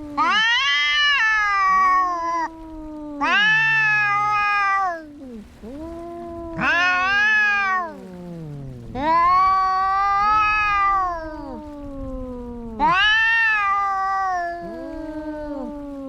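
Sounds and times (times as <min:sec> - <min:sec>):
cats yowling in a fight: 0:00.0 - 0:16.0
low cat wail: 0:00.0 - 0:16.0.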